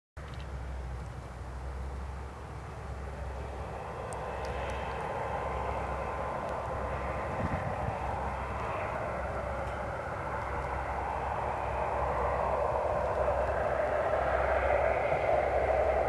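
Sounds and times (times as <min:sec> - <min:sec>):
aircraft engine hiss and hum: 0:00.2 - 0:16.0.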